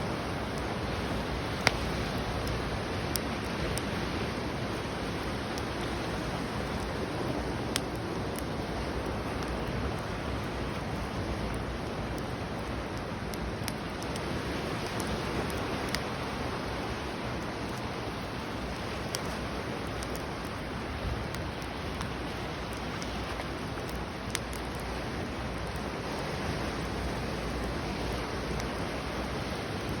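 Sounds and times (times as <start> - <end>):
fire popping and cracking: 0.0 - 30.0
wood fire hissing: 0.0 - 30.0.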